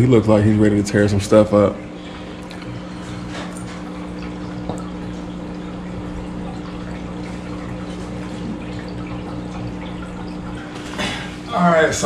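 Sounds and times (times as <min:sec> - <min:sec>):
pump humming: 0:00.0 - 0:12.0
water trickling and bubbling: 0:00.3 - 0:12.0.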